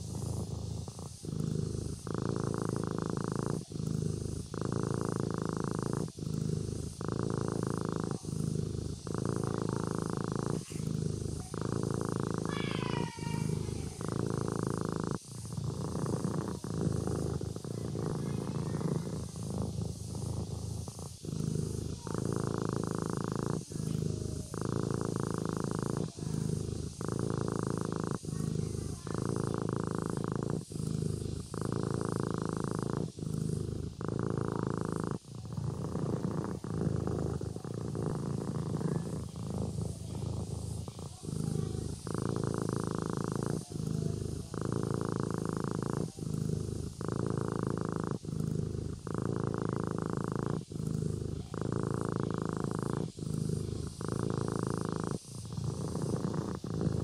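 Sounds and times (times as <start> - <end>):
kitten purring: 0.0 - 57.0.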